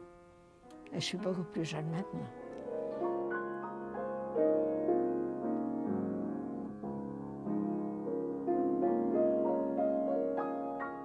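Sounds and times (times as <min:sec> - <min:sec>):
slow quiet piano piece: 0:00.0 - 0:11.0.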